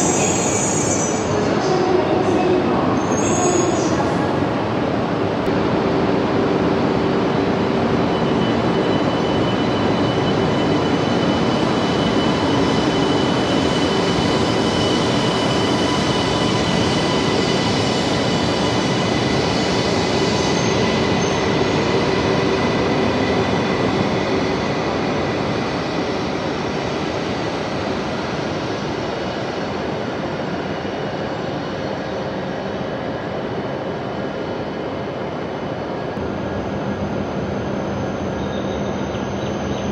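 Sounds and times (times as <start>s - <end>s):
train running with high whine: 0.0s - 39.9s.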